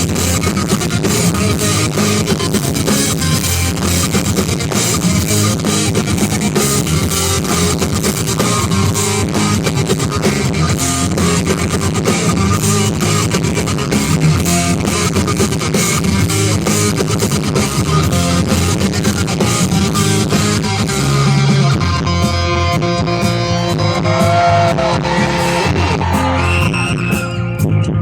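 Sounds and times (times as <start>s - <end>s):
drums: 0.0s - 28.0s
electric guitar: 0.0s - 28.0s
rock band playing instrumental: 0.0s - 28.0s.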